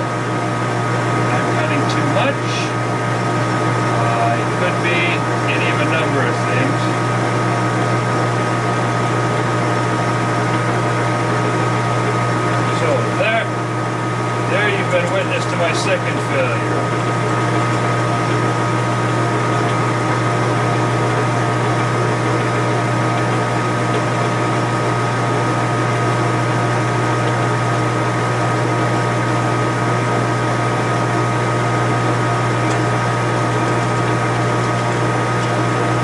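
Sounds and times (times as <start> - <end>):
lathe motor humming: 0.0 - 36.0.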